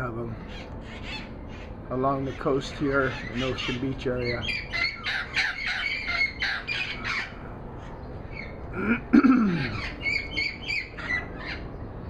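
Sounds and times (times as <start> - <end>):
parrots squawking: 0.4 - 8.6, 9.5 - 11.7.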